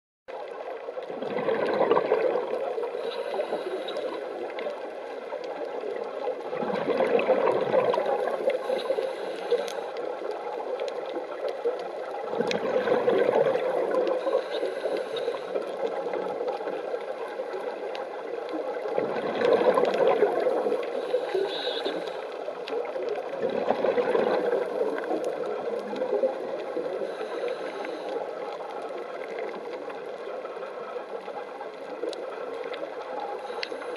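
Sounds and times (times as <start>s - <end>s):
gurgling exhaled bubbles: 0.4s - 33.9s
underwater hiss: 0.6s - 33.9s.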